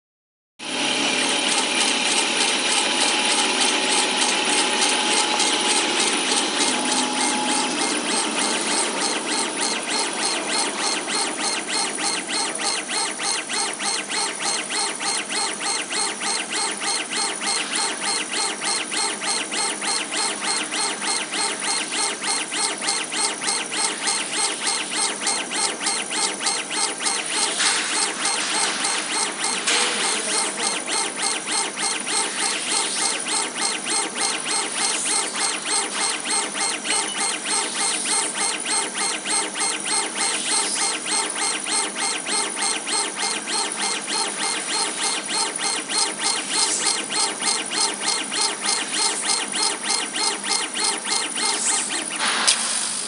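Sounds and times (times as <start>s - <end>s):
laser engraver whirring and hissing: 0.6s - 53.0s
laser head sweeping back and forth: 1.5s - 52.2s.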